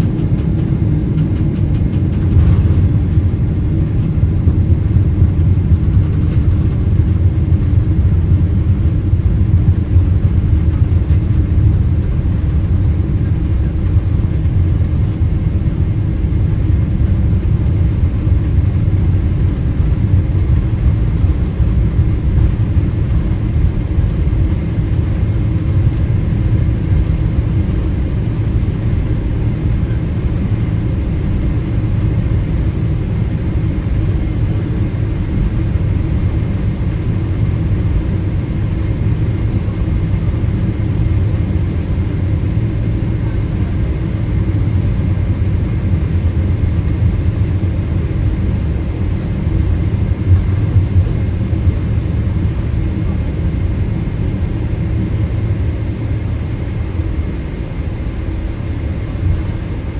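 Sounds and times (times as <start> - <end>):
airplane cabin low rumble: 0.0 - 59.9.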